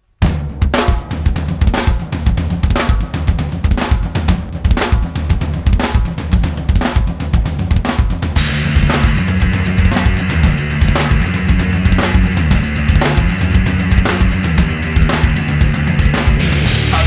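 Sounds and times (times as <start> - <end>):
driving drum beat: 0.1 - 17.0.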